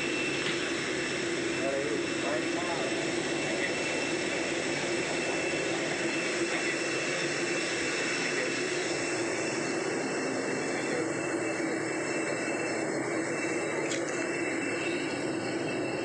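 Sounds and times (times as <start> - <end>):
mechanical drone: 0.0 - 16.0
thin high whine: 0.0 - 16.0.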